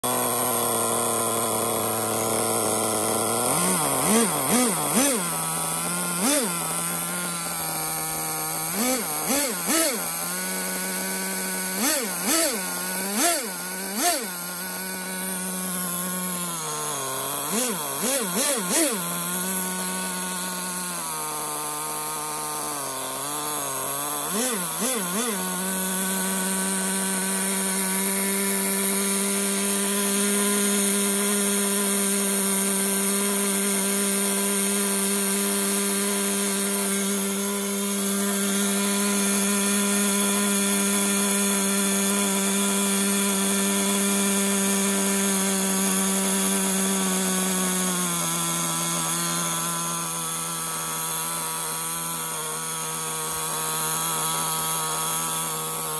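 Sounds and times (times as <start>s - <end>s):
small two-stroke engine revving: 0.0s - 55.9s.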